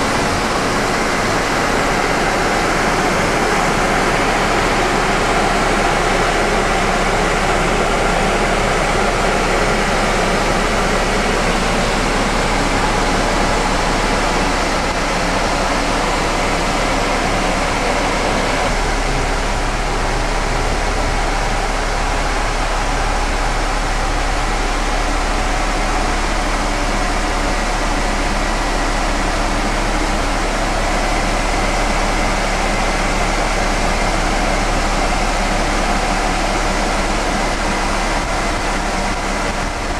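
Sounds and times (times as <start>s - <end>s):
fire engine machinery running: 0.0s - 39.9s.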